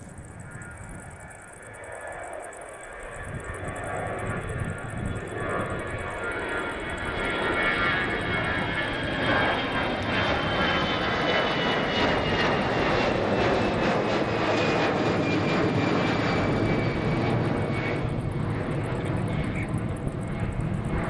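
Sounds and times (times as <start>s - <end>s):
jet engines roaring with whine: 0.0s - 21.0s.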